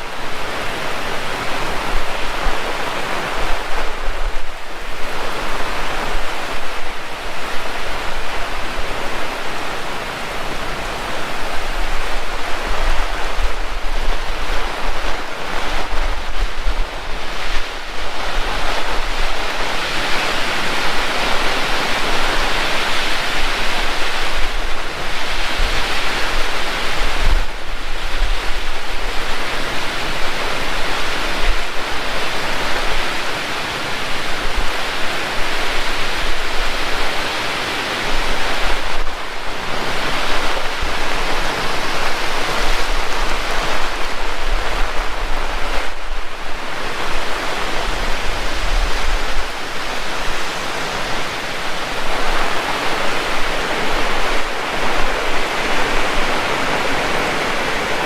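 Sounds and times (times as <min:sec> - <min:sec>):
heavy rain pouring: 0:00.0 - 0:58.0
wind rumble on microphone: 0:00.0 - 0:58.0.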